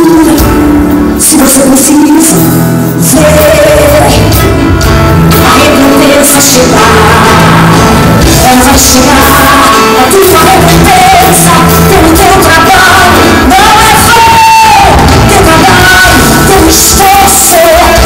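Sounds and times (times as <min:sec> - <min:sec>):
person singing: 0:00.0 - 0:04.4, 0:05.3 - 0:18.0
band playing worship music: 0:00.0 - 0:18.0.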